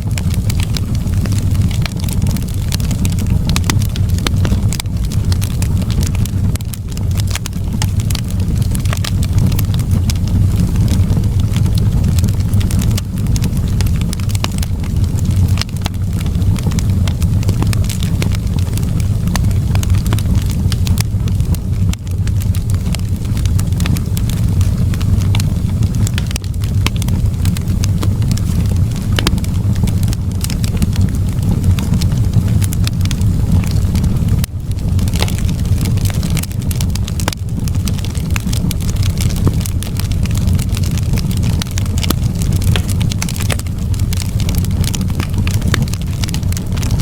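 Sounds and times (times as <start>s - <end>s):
burning logs crackling and popping: 0.0s - 47.0s
low rumble of flames: 0.0s - 47.0s.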